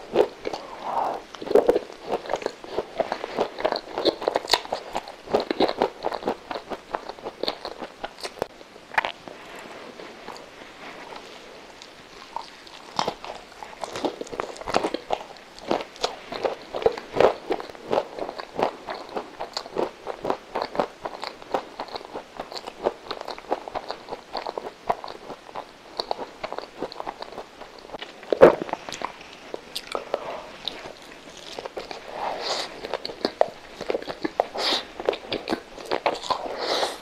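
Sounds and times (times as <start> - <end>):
mouth chewing soft bread: 0.0 - 37.0.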